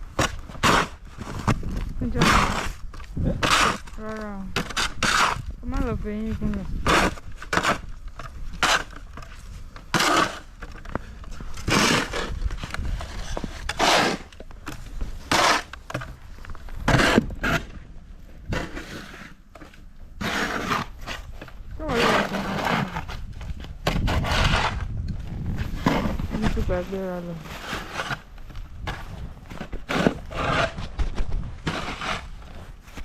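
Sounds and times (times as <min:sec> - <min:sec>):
low rumble of wind: 0:00.0 - 0:33.0
shovel scraping snow: 0:00.2 - 0:07.9, 0:08.5 - 0:10.6, 0:11.4 - 0:17.8, 0:18.4 - 0:33.0.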